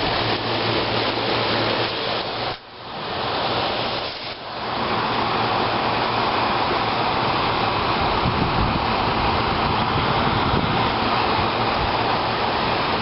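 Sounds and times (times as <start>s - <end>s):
air conditioner fan hiss: 0.0s - 13.0s.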